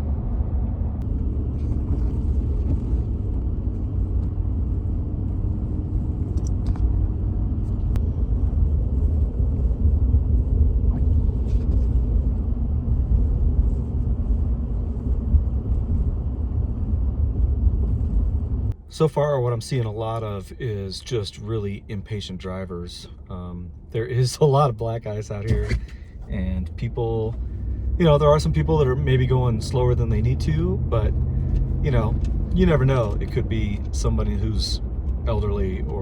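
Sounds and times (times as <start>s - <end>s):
vehicle rumble from inside cab: 0.0s - 36.0s.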